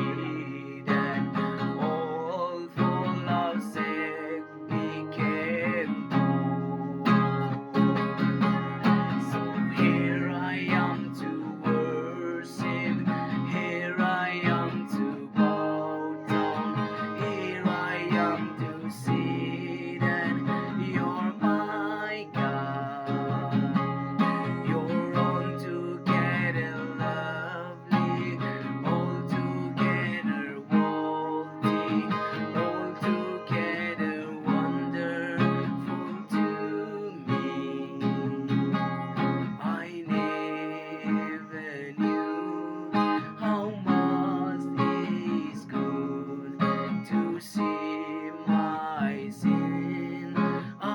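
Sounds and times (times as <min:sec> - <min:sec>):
strummed acoustic guitar music: 0:00.0 - 0:50.9.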